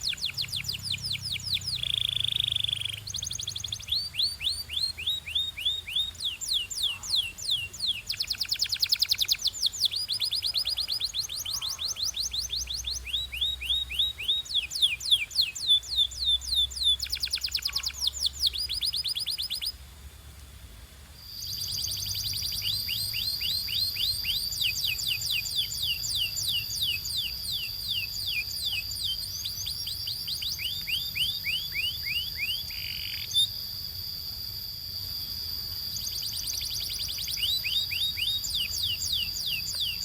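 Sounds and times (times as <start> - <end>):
canary singing trills: 0.0 - 19.8, 21.2 - 40.0.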